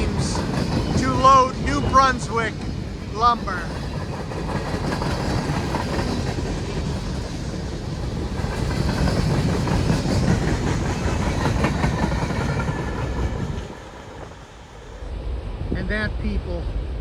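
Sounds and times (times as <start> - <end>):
freight train wheels clattering: 0.0 - 14.8.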